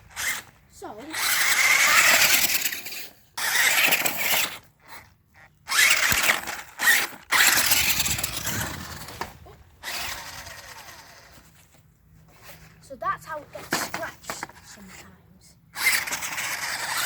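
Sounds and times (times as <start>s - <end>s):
toy truck electric motor whirring: 0.0s - 11.6s, 13.5s - 15.0s, 15.7s - 17.0s.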